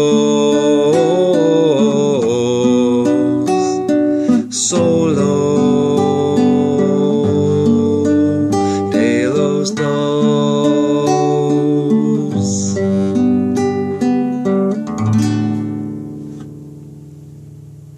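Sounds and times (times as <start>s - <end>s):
classical guitar playing: 0.0s - 17.9s.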